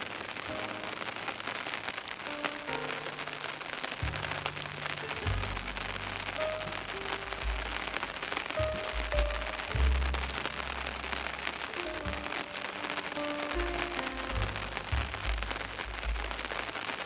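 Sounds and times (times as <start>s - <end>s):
soft background music: 0.0s - 17.0s
steady rain falling: 0.0s - 17.0s.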